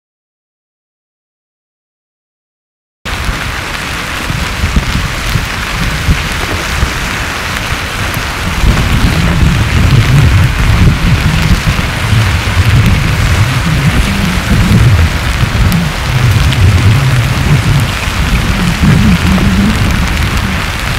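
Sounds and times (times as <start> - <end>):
lava crackling hiss: 3.1 - 20.9
low uneven rumble: 3.2 - 20.9.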